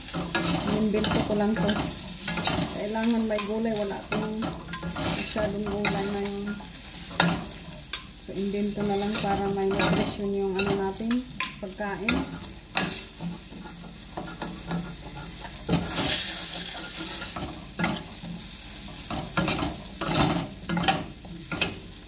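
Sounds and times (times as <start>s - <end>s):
meat and vegetables sizzling: 0.0s - 22.0s
metal spatula scraping a wok: 0.1s - 8.0s, 8.7s - 11.1s, 12.0s - 21.9s.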